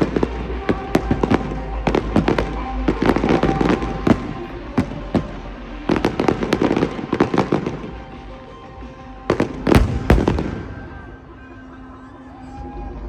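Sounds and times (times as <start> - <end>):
fireworks bangs and crackles: 0.0 - 11.7
music playing: 0.0 - 13.0.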